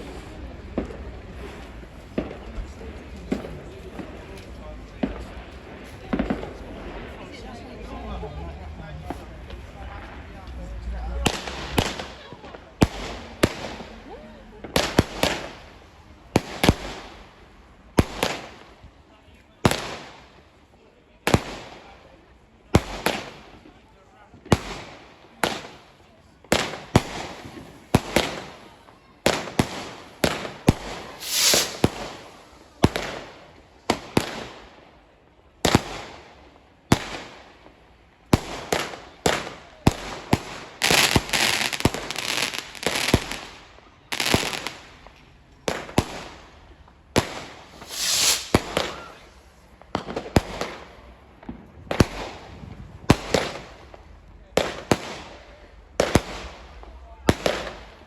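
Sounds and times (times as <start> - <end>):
fireworks bangs: 0.0 - 19.0, 19.6 - 20.5, 21.2 - 58.0
noisy firework bursts: 0.0 - 58.0.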